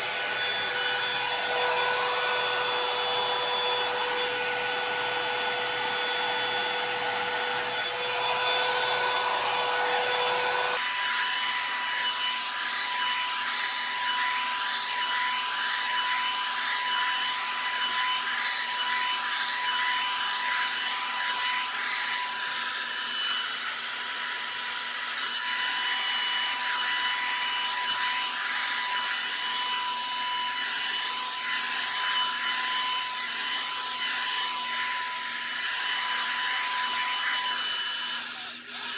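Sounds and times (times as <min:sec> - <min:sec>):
hot air brush motor whine: 0:00.0 - 0:38.9.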